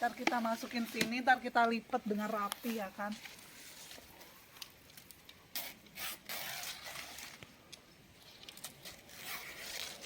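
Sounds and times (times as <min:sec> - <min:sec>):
leaves rustling and crinkling: 0:00.0 - 0:10.0.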